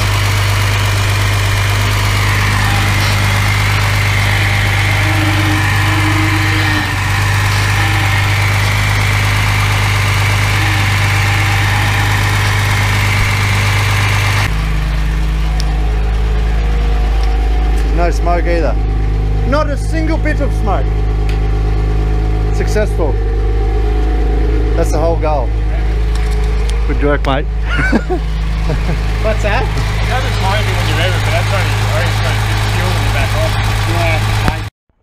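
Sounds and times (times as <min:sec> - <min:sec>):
car engine fast idle: 0:00.0 - 0:34.7.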